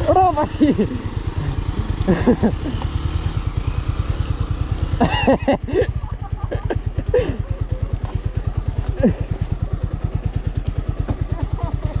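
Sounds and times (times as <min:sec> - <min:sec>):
motorcycle engine puttering: 0:00.0 - 0:12.0.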